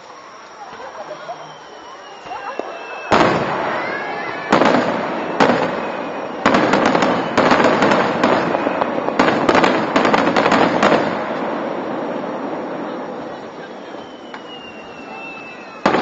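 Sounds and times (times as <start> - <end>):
crackling firework bursts: 0.0 - 16.0
firework shells bursting with bangs: 1.6 - 16.0.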